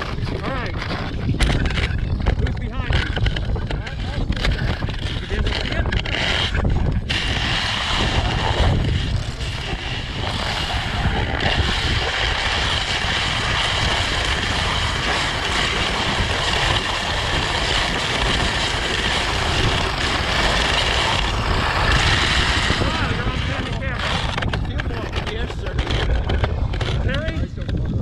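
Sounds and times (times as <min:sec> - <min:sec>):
ski scraping over packed snow: 0:00.0 - 0:28.0
wind on microphone: 0:00.0 - 0:28.0.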